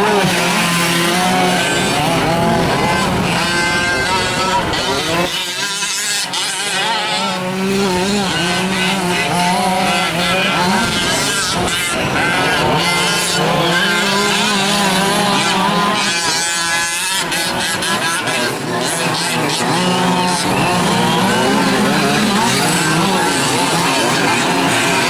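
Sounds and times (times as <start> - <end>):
rc truck engines buzzing: 0.0 - 25.0.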